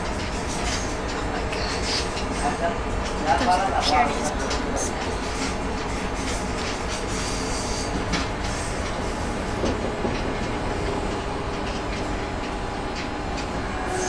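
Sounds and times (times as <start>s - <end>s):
train rumble inside carriage: 0.0s - 14.0s
wheel-on-rail noise: 0.0s - 14.0s.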